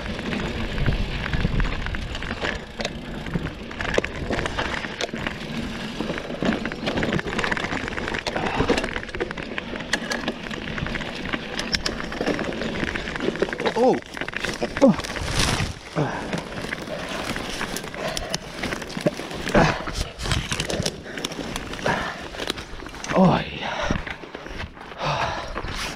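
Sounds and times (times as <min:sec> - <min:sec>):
bike rattling and clicking: 0:00.0 - 0:25.9
bike tyres crunching over dirt: 0:00.0 - 0:25.9.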